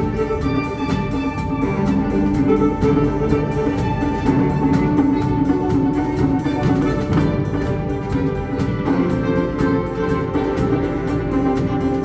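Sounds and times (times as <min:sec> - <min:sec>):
wind band playing chords: 0:00.0 - 0:12.0.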